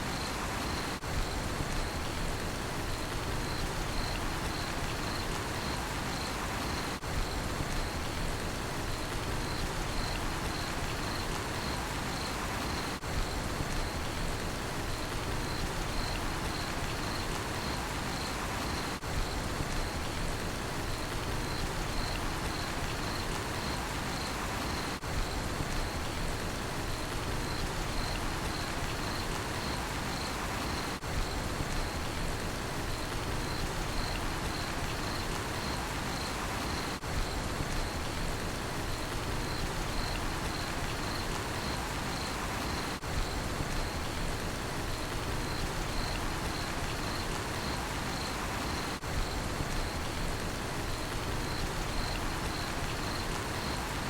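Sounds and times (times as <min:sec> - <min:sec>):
rain falling: 0:00.0 - 0:54.0
cricket chirping: 0:02.9 - 0:08.2, 0:08.9 - 0:14.2, 0:14.9 - 0:20.2, 0:20.8 - 0:26.2, 0:26.9 - 0:32.2, 0:32.8 - 0:38.2, 0:38.8 - 0:54.0.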